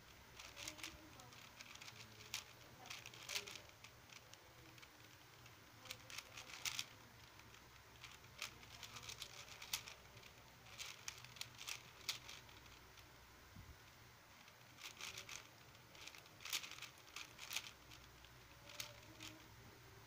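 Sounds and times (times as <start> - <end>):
quick plastic clicks of puzzle cube: 0.4 - 13.1, 14.4 - 19.5.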